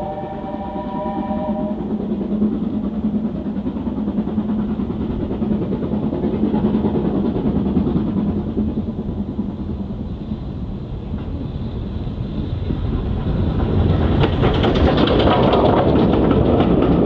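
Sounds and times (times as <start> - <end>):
steam train rumbling past: 0.0 - 17.0.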